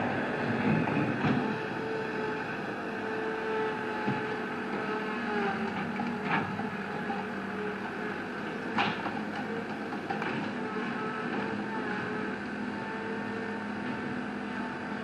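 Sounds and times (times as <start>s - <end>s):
construction equipment engine running: 0.0s - 15.0s.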